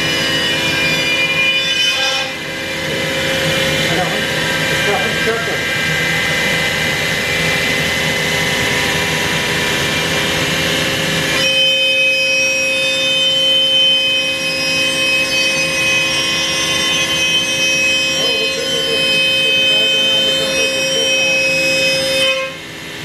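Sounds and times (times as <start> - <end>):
router cutting wood: 0.0 - 23.0
router spindle high whine: 0.0 - 23.0.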